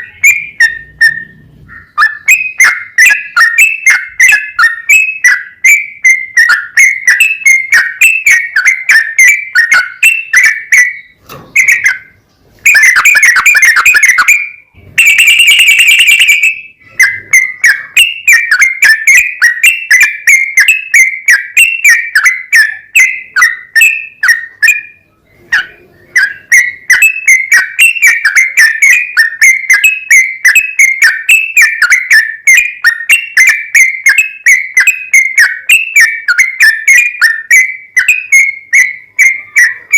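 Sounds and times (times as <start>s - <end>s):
bird song chattering: 0.0s - 39.9s.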